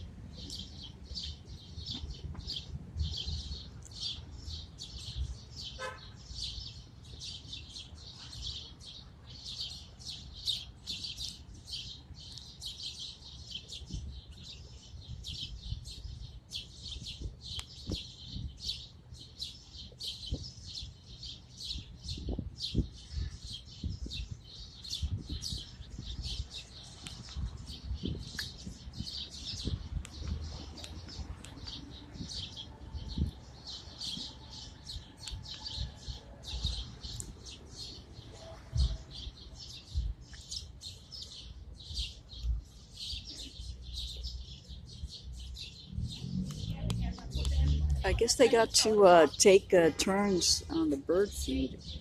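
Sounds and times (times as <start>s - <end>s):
flock of small birds chirping: 0.0s - 52.0s.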